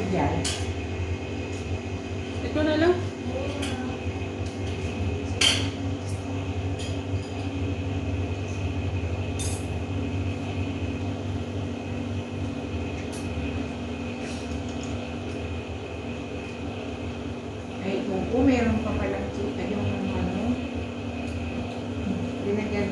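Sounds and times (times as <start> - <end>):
steady mechanical hum: 0.0 - 22.9.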